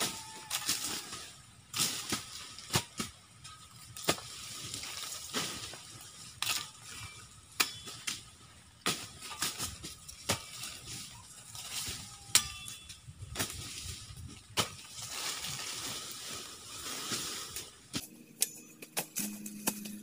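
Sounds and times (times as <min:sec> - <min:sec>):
dry leaves rustling: 0:00.0 - 0:20.0
machete chopping cane stalks: 0:00.0 - 0:20.0.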